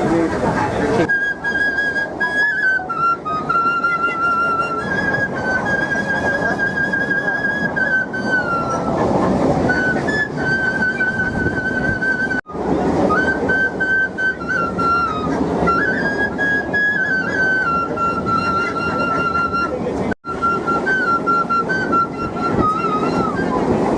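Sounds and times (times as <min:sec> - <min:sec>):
moving train running: 0:00.0 - 0:23.9
nose flute melody: 0:00.9 - 0:23.9.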